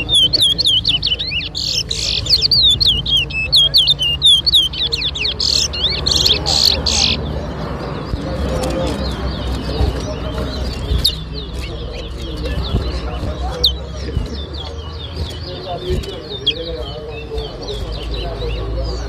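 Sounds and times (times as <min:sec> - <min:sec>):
finch singing whistled chirps: 0:00.0 - 0:19.0.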